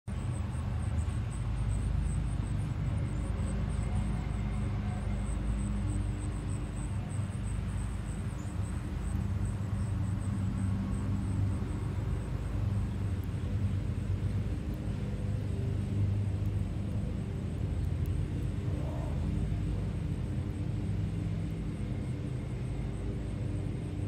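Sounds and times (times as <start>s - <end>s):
faint hum: 0.1s - 24.0s
low engine rumble: 0.1s - 24.0s.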